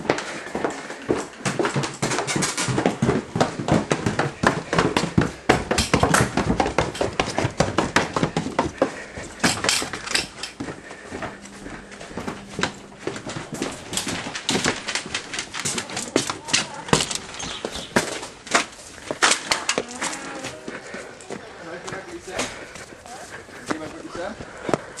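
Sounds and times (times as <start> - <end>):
hurried footsteps on floors: 0.0 - 25.0.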